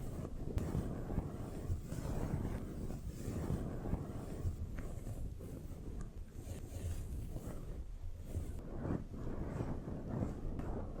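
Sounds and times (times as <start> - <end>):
dense crackle on microphone: 0.0 - 11.0.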